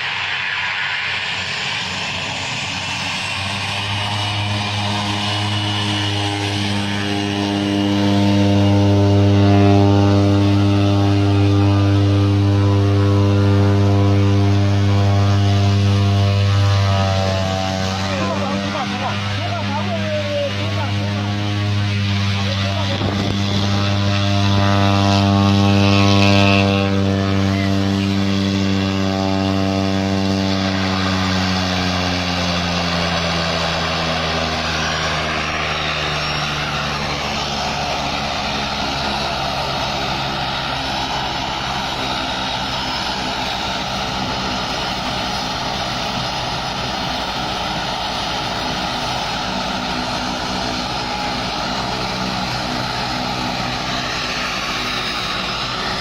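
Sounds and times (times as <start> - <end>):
propeller aircraft engine: 0.0 - 56.0.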